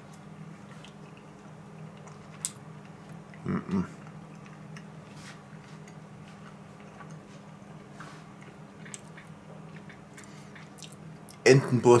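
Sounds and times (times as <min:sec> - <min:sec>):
soft chewing: 0:00.0 - 0:11.4.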